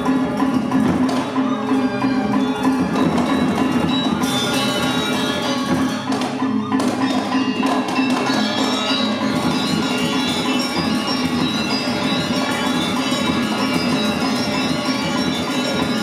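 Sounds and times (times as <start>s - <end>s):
gamelan playing: 0.0s - 16.0s.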